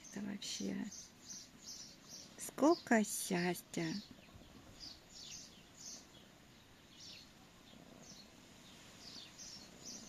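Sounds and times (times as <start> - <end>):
high bird chirps: 0.0 - 10.0.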